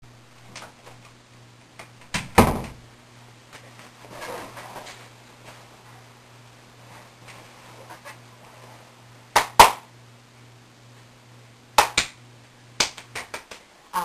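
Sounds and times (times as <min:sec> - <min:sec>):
faint low steady hum: 0:00.0 - 0:14.0.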